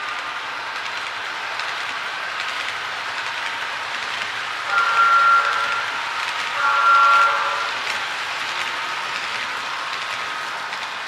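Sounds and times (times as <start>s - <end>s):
model train wheels rattling: 0.0s - 11.0s.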